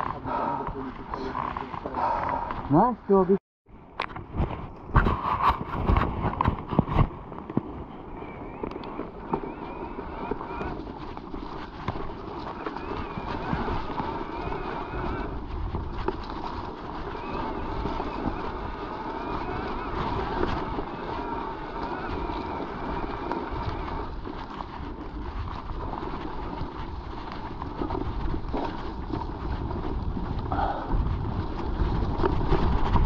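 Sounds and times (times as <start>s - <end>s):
wind buffeting microphone: 3.8s - 33.0s
tyre rumble on rough trail: 4.0s - 33.0s.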